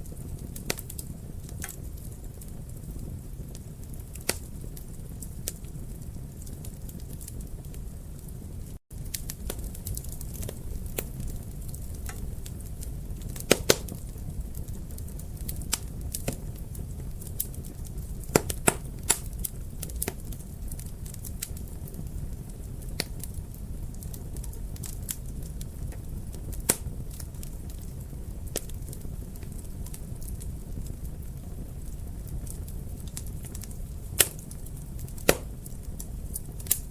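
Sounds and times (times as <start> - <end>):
fire popping and snapping: 0.0 - 36.9
wood fire crackling: 0.0 - 36.9.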